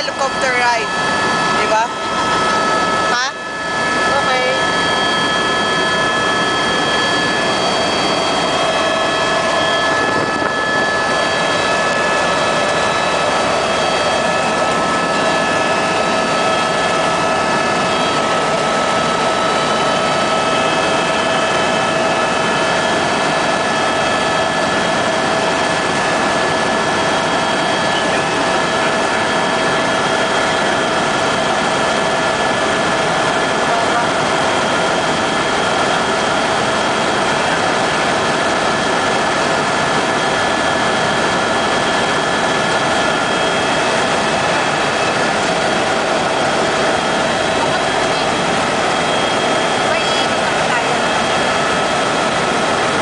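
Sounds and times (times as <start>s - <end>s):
helicopter engine and rotor noise: 0.0s - 53.0s
high steady whining tones: 0.0s - 53.0s.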